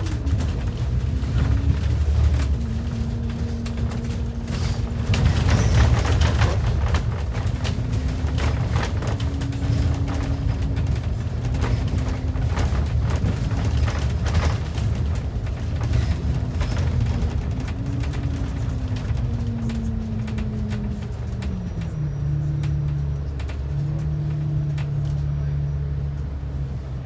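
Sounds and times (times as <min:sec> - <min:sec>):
rattles and knocks: 0:00.0 - 0:25.4
bus engine rumble: 0:00.0 - 0:27.0.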